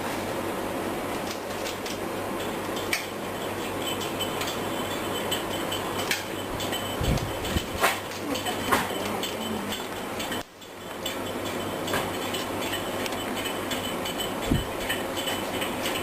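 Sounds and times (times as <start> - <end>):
steady low hum: 0.0 - 16.0
light clicks and clinks: 1.6 - 16.0.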